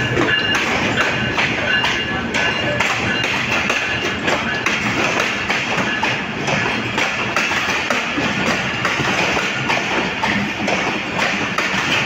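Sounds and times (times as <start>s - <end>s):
train rumbling on track: 0.0s - 12.0s
wheels clicking over rail joints: 0.0s - 12.0s.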